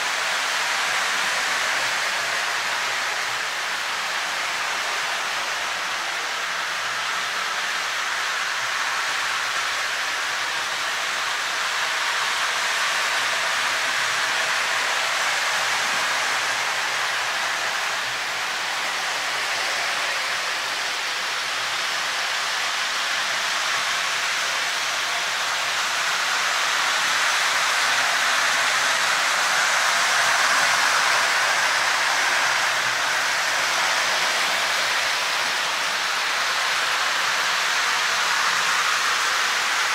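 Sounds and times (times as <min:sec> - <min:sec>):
model trains whirring: 0:00.0 - 0:39.9.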